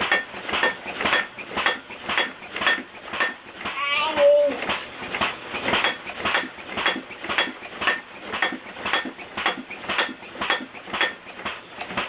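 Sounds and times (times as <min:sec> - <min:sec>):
rhythmic metallic clanking: 0:00.0 - 0:12.0.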